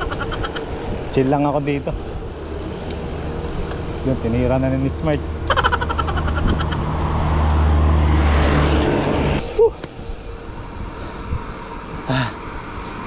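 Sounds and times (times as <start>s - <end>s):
vehicle passing with tyre noise: 0.0s - 13.0s.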